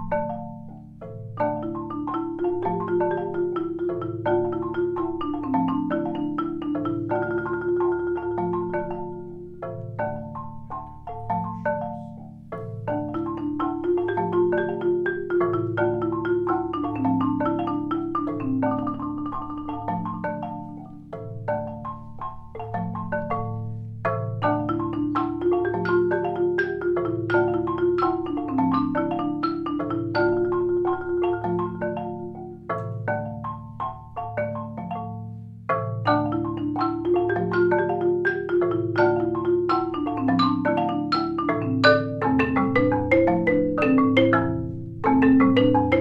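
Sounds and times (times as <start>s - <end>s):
marimba ensemble playing: 0.0s - 46.0s.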